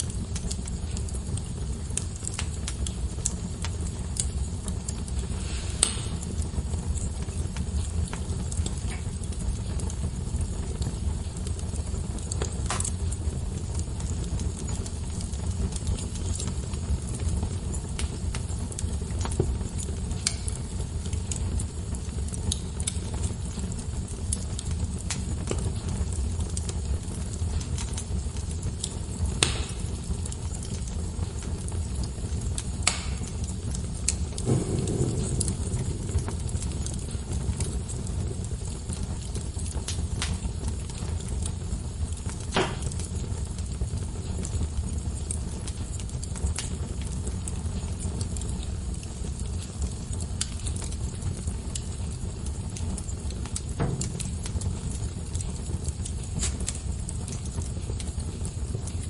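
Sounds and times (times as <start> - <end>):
fire pops: 0.0 - 59.0
low rumble of flame: 0.0 - 59.0
wood fire crackling: 0.0 - 59.0.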